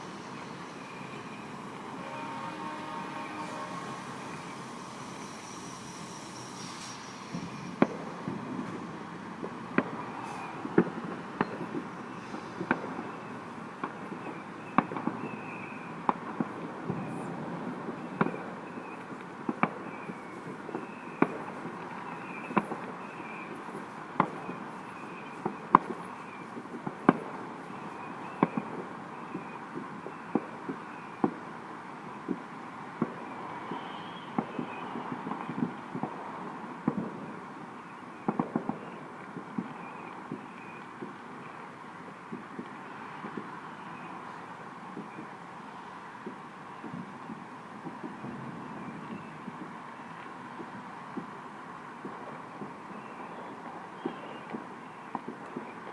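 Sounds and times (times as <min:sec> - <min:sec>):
fireworks bangs: 0:00.0 - 0:55.9
steady background hiss: 0:00.0 - 0:55.9.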